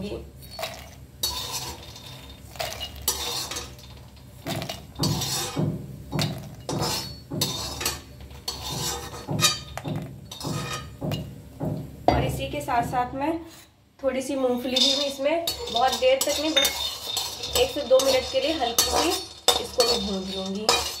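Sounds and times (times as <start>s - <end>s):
metal skimmer scraping and clinking: 0.4s - 11.3s, 14.7s - 21.0s.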